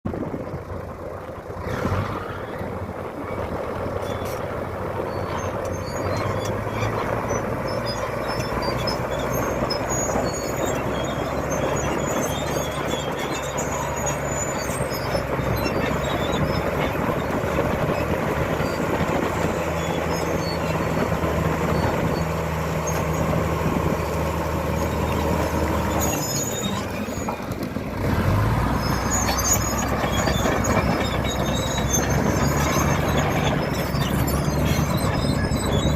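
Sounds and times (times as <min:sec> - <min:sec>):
bulldozer diesel engine running: 0:00.1 - 0:35.9.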